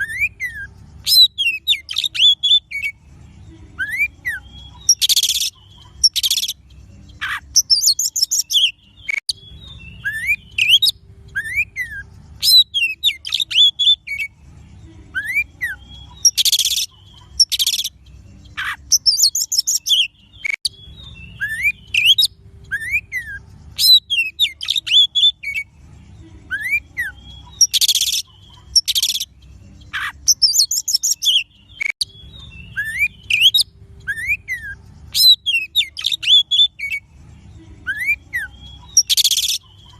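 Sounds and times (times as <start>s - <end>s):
bird song with whistles and trills: 0.0s - 39.9s.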